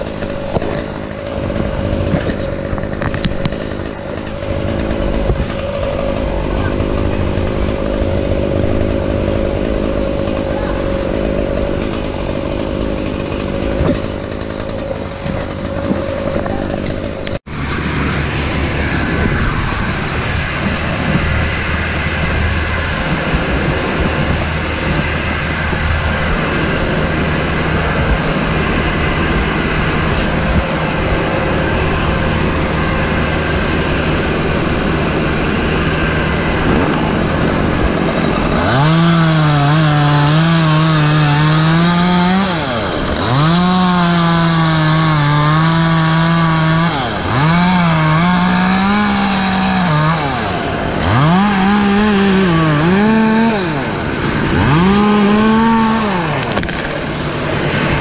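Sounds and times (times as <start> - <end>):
engines running: 0.0 - 58.0.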